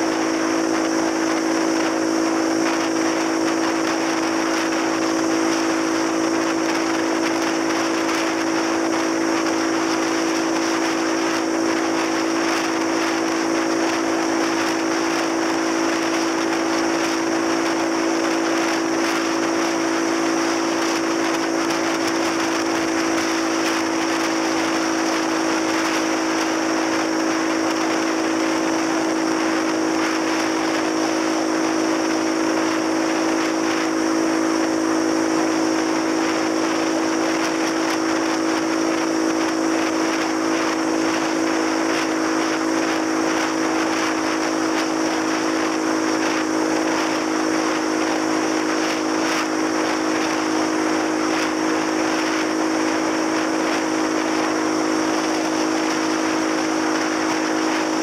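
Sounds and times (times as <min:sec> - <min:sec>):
motorcycle engine droning: 0:00.0 - 0:58.0
wind and road noise: 0:00.0 - 0:58.0.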